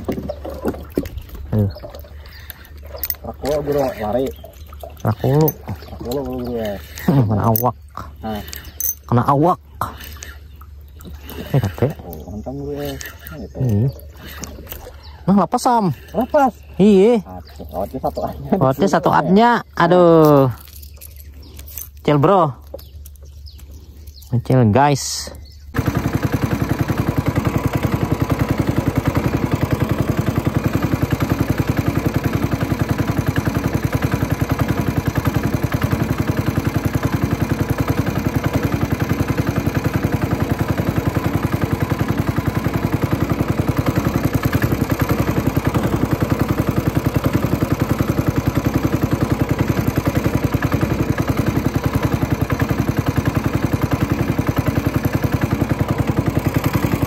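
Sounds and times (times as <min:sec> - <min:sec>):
small boat engine running: 0:00.0 - 0:57.0.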